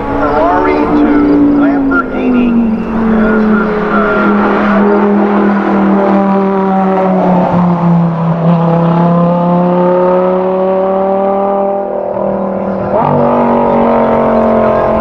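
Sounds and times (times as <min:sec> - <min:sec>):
performance car engine under load: 0:00.0 - 0:15.0.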